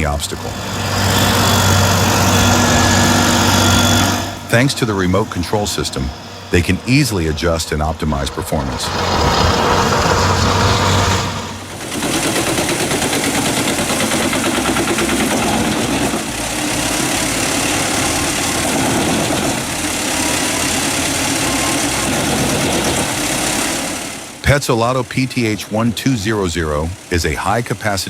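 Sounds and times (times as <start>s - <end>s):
heavy machine engine running: 0.0s - 28.0s.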